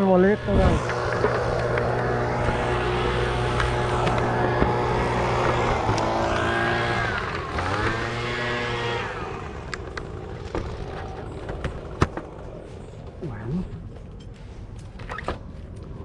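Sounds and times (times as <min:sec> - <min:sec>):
engine running: 0:00.0 - 0:14.8.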